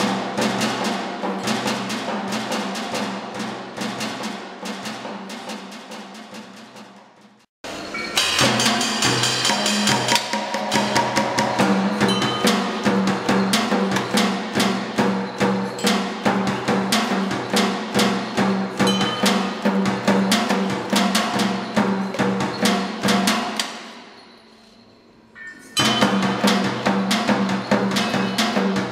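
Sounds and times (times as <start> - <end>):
robotic percussion on metal objects: 0.0 - 28.9.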